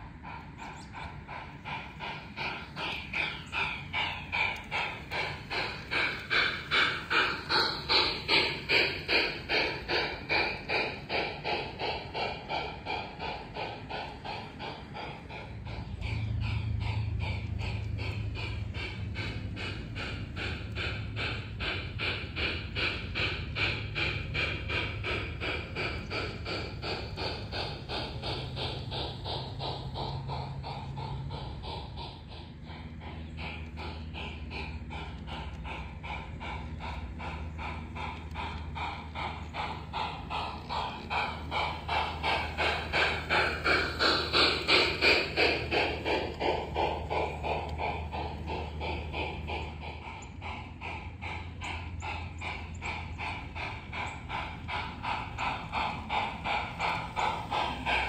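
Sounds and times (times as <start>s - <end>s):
model train running on track: 0.0s - 58.0s.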